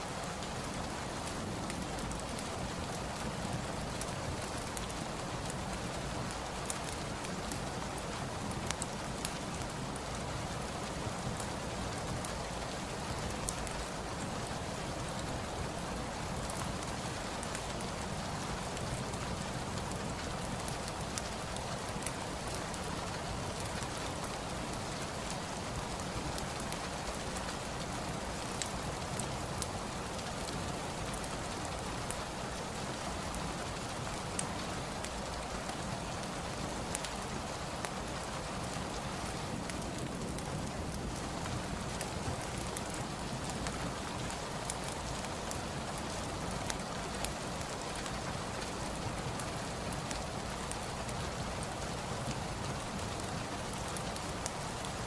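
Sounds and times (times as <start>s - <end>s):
steady rain: 0.0s - 55.0s
fireplace crackling: 0.1s - 55.0s.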